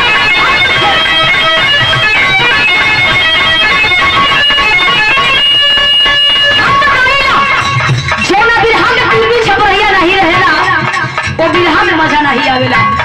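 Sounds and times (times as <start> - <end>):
plucked-string melody: 0.0 - 12.3.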